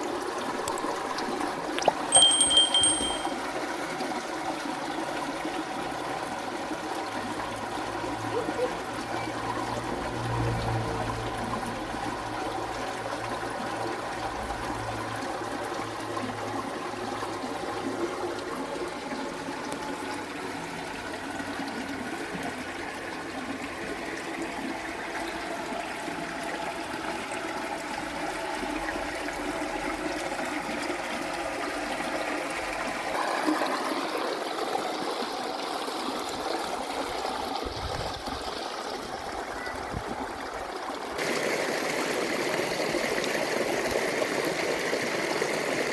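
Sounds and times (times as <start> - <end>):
trickling running water: 0.0 - 45.9.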